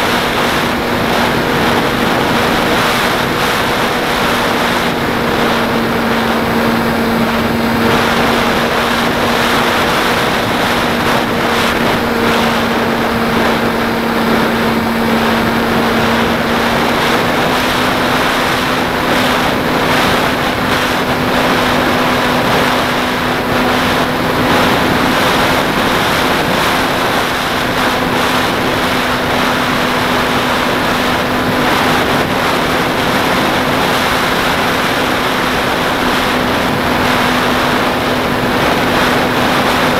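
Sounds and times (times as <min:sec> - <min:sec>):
model airplane motor humming: 0:00.0 - 0:39.9
wind rushing: 0:00.0 - 0:39.9.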